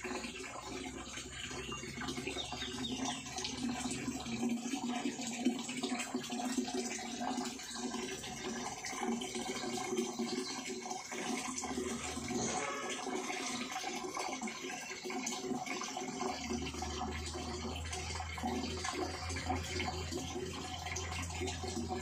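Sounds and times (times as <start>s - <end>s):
water running through condenser: 0.0s - 22.0s.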